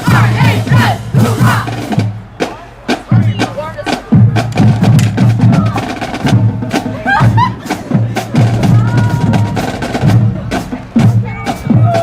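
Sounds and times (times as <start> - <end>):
pulsing low drum beat: 0.0 - 12.0.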